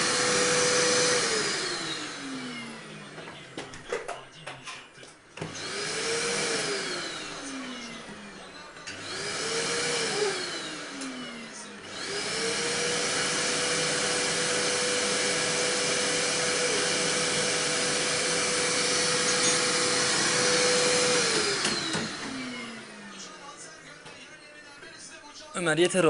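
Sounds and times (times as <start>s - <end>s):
vacuum cleaner motor whine: 0.0s - 3.7s, 5.4s - 24.0s.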